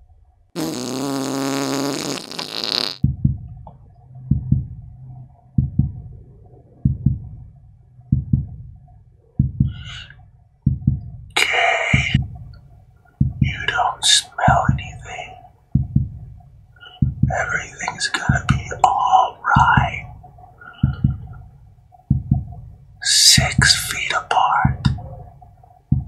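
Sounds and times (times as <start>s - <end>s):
heartbeat thumps: 3.0s - 26.0s.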